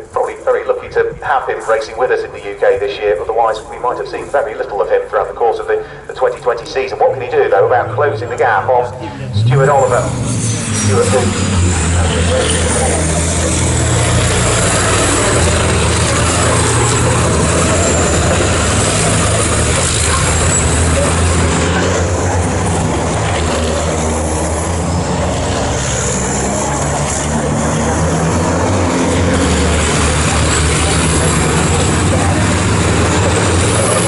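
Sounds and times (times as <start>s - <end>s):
truck engines running hard: 0.0s - 34.0s
turbo whine: 6.2s - 34.0s.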